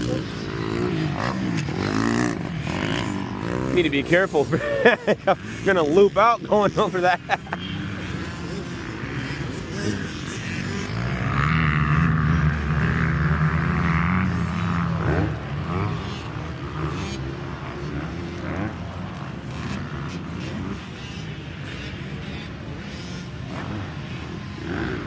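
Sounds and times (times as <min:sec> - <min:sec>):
dirt bikes revving: 0:00.0 - 0:25.0
loud dirt bike engine: 0:00.0 - 0:25.0.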